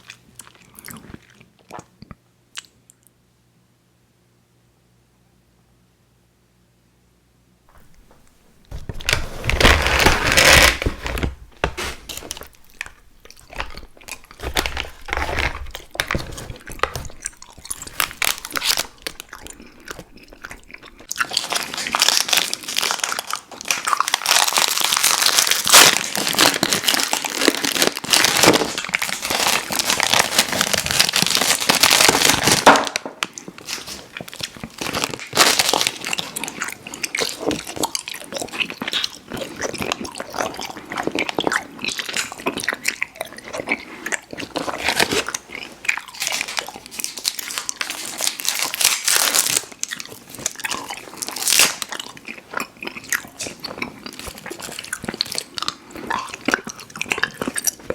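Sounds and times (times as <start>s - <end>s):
person chewing candy: 0.0s - 3.1s, 7.7s - 57.9s.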